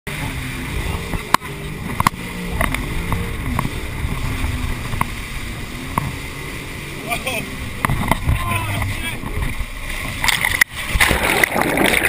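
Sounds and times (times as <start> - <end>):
watercraft engine running: 0.0 - 12.0
wind: 0.0 - 12.0
water wash: 0.1 - 12.0.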